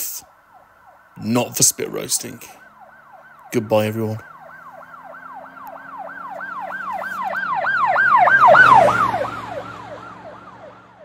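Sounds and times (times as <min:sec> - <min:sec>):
emergency siren yelping: 0:00.3 - 0:11.0.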